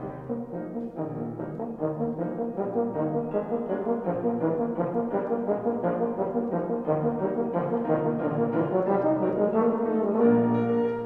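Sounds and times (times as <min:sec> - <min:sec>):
euphonium playing: 0:00.0 - 0:11.0.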